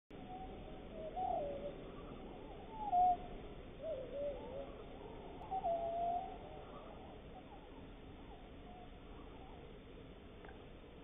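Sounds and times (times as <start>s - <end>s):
bird cooing: 0.2s - 9.8s.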